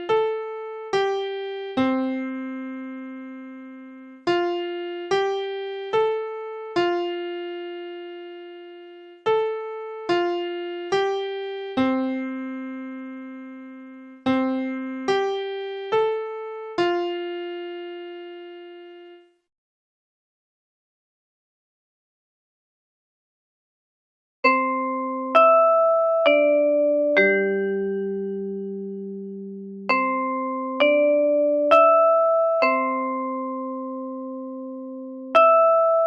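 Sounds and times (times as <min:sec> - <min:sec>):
piano playing slow melody: 0:00.0 - 0:19.2, 0:24.5 - 0:36.0.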